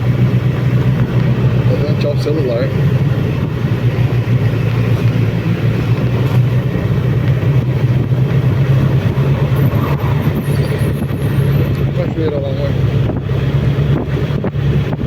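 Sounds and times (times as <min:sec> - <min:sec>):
motorcycle engine running: 0:00.0 - 0:15.0
wind noise: 0:02.8 - 0:15.0.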